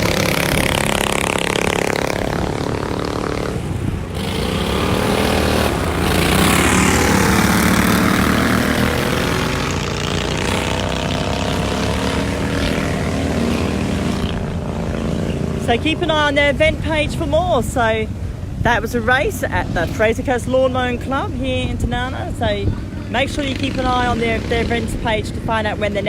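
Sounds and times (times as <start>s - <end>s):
lawn mower engines racing: 0.0s - 26.0s.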